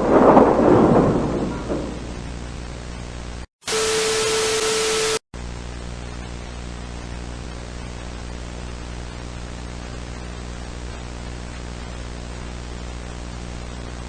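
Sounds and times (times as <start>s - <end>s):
electrical hum: 0.0s - 14.0s
static burst with steady tone: 0.0s - 14.0s.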